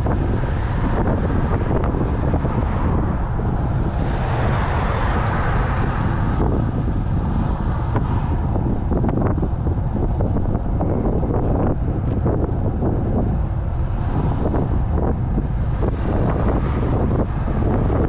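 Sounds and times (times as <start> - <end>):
car passing: 0.0 - 18.0
wind rumble on microphone: 0.0 - 18.0.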